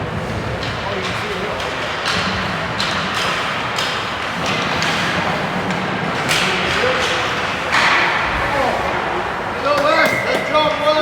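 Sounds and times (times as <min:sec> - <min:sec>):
hockey sticks and puck knocks: 0:00.1 - 0:11.0.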